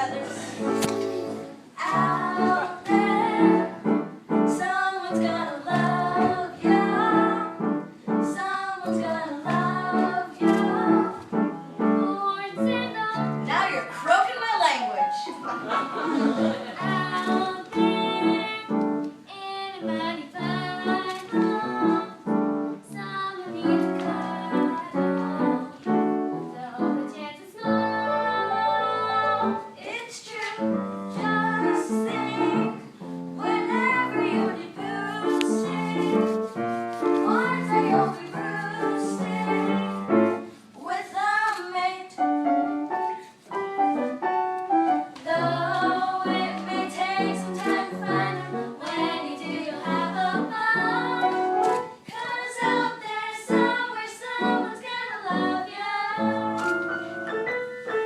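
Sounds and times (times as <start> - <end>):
piano accompaniment: 0.0 - 58.0.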